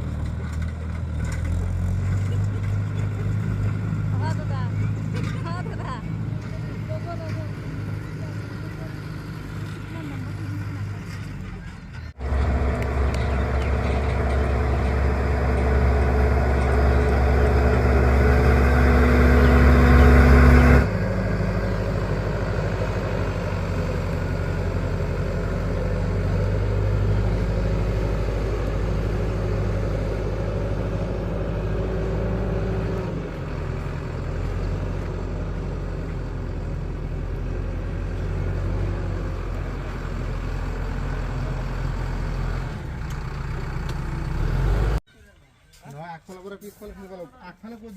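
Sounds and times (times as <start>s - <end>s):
heavy diesel engine drone: 0.0s - 45.0s.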